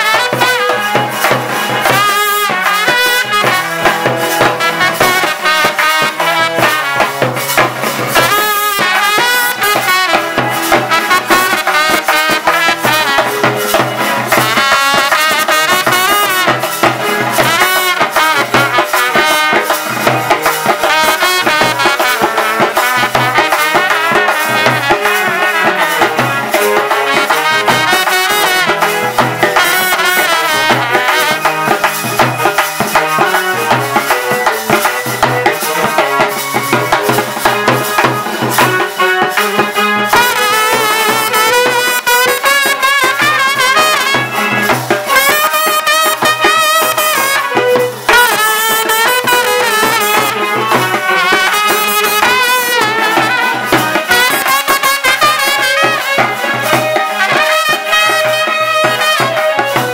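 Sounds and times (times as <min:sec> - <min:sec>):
dhol drums beat: 0:00.0 - 0:59.9
rattling percussion: 0:00.0 - 0:59.9
trumpet melody: 0:00.0 - 0:59.9.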